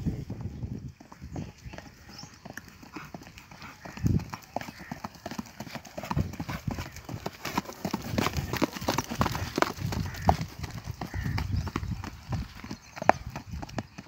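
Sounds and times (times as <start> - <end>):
horse hooves on dirt track: 0.0 - 14.0.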